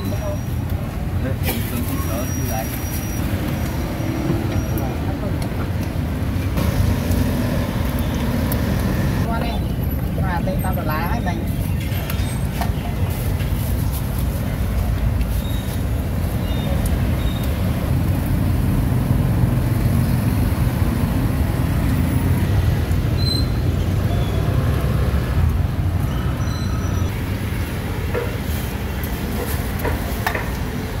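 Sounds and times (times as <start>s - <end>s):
low rumble of road traffic: 0.0s - 31.0s.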